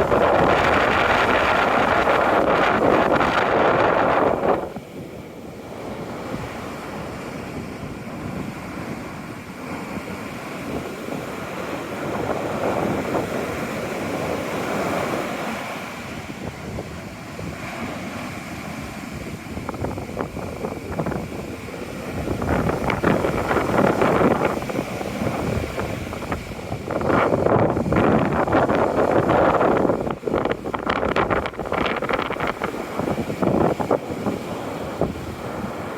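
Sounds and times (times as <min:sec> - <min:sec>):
sea waves washing in: 0:00.0 - 0:35.9
wind buffeting microphone: 0:00.0 - 0:35.9.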